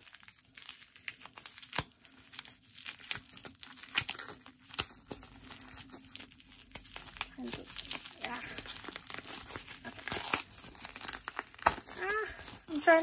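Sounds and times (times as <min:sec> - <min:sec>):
packing tape peeling: 0:00.0 - 0:13.0
plastic wrap crinkling: 0:00.0 - 0:13.0
small tearing sounds: 0:00.0 - 0:13.0.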